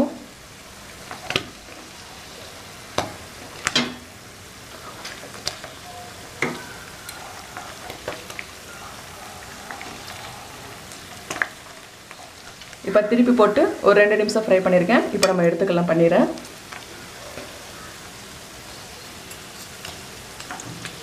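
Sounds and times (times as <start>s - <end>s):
cheese cubes sizzling in oil: 0.0s - 21.0s.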